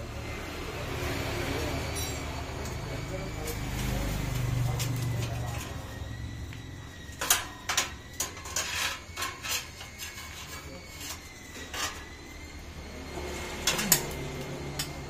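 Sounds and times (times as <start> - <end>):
steel slivers clinking and scraping: 1.6 - 12.6, 13.3 - 15.0.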